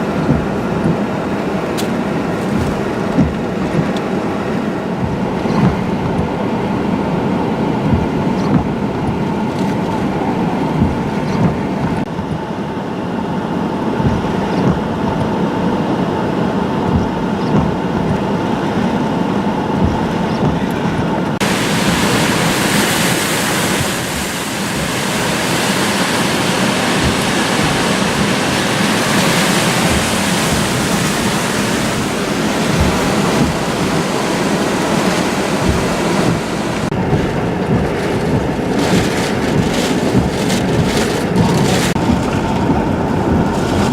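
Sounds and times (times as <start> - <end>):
hurricane wind and rain: 0.0 - 43.9.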